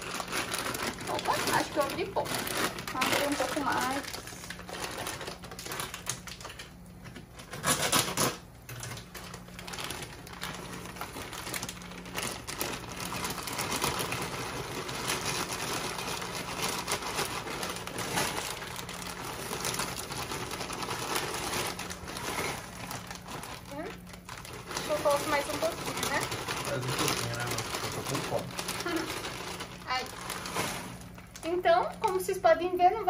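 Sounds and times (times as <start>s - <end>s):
dry pasta rattling in plastic bag: 0.0s - 33.0s.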